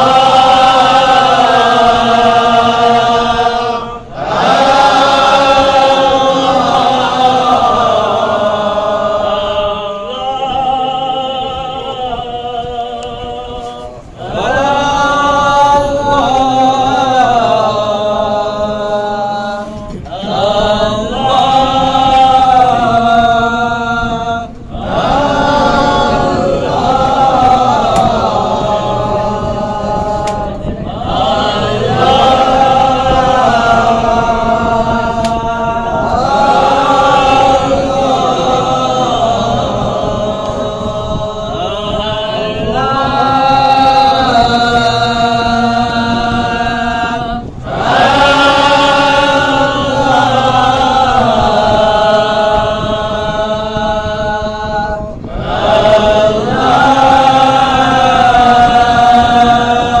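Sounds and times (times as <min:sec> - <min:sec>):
men chanting a hymn in unison: 0:00.0 - 1:00.0.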